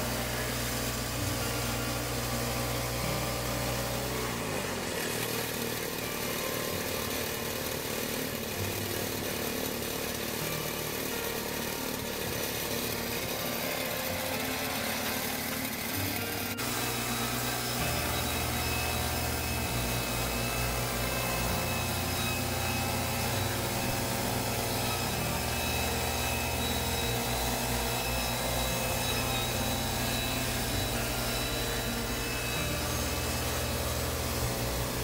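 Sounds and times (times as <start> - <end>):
bandsaw mill cutting log: 0.0 - 35.0
gas engine running: 0.0 - 35.0.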